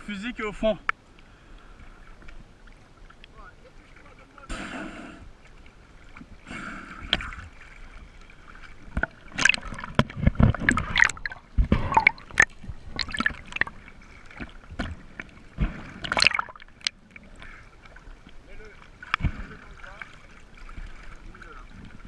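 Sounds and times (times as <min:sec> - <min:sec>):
water splashing against camera: 0:03.1 - 0:22.0.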